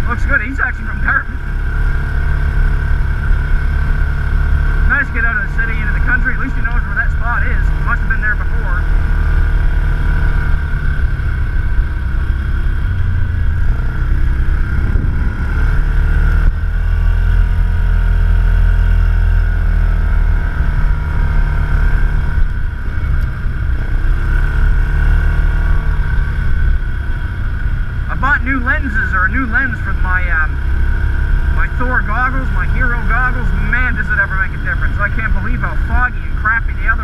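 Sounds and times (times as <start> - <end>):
atv engine rumbling: 0.0 - 37.0.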